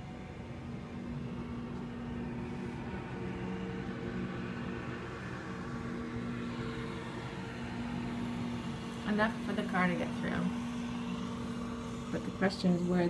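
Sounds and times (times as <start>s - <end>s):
loader engine running: 0.0s - 13.0s.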